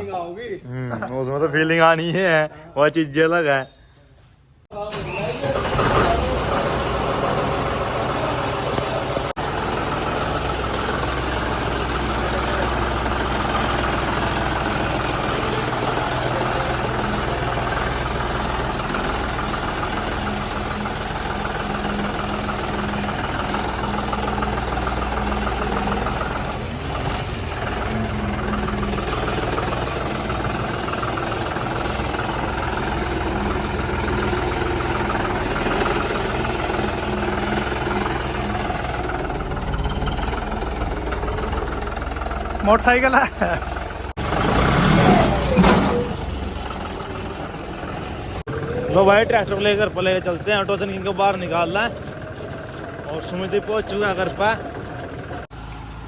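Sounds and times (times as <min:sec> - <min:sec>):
tractor diesel engine idling: 0:04.7 - 0:56.0.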